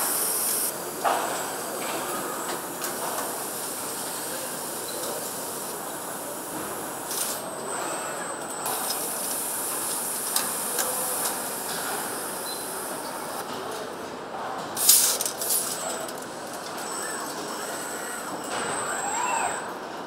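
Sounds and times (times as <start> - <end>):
machinery hum and hiss: 0.0 - 20.0.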